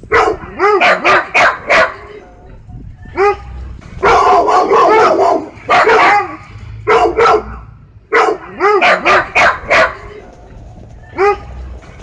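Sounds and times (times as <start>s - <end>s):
sled dogs barking: 0.0s - 2.4s, 3.1s - 12.0s.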